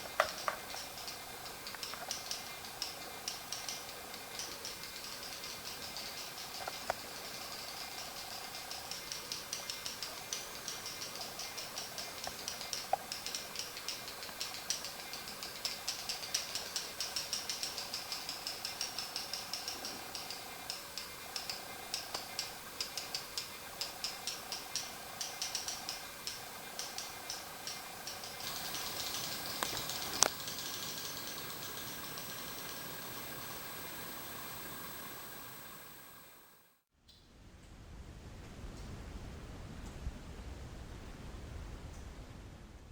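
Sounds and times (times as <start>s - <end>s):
bird echolocation clicks: 0.0s - 34.9s
faint steady drone: 0.0s - 36.8s
hiss: 0.0s - 36.8s.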